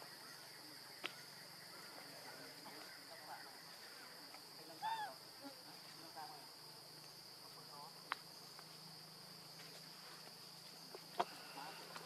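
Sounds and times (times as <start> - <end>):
faint chirps: 0.0 - 12.0.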